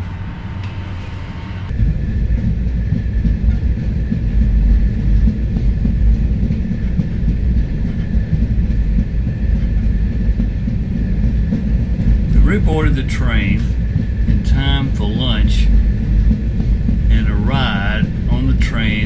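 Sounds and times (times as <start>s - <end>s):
faint high whine: 0.0s - 19.0s
train rumbling on rails: 0.0s - 19.0s.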